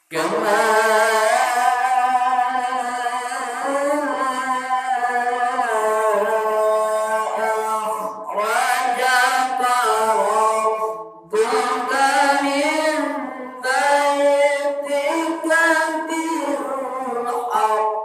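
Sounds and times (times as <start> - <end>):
person singing or chanting: 0.0 - 18.0.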